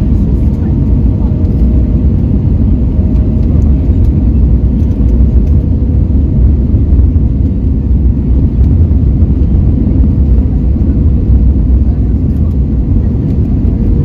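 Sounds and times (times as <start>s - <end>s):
airplane cabin rumble: 0.0s - 14.0s.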